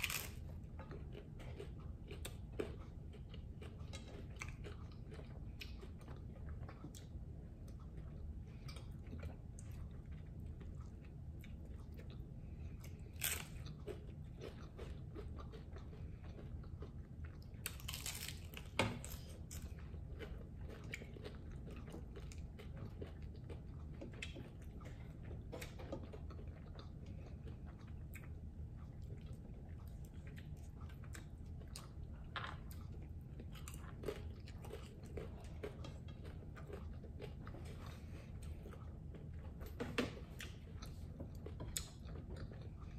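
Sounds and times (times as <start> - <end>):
crunchy chewing and biting: 0.0 - 42.9
low room hum: 0.0 - 42.9.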